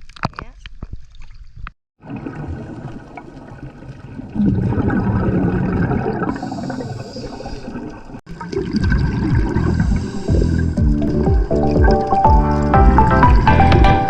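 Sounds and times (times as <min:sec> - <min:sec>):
seawater sloshing and gurgling: 0:01.1 - 0:13.4.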